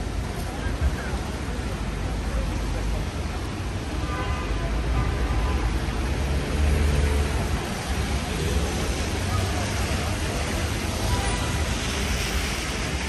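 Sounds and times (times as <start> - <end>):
street traffic hiss: 0.0 - 13.0.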